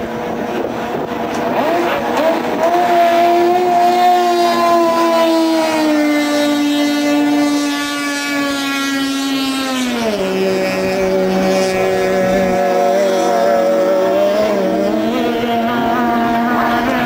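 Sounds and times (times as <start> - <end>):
racing boat engine high revs: 0.0 - 17.0.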